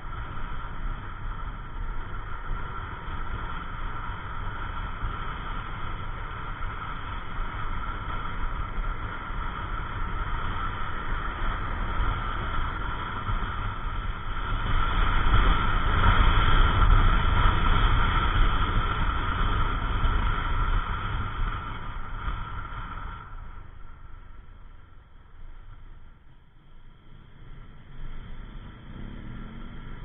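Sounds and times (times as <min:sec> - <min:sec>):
road noise: 0:00.0 - 0:30.0
scooter engine: 0:00.0 - 0:30.0
wind rush on microphone: 0:00.0 - 0:30.0.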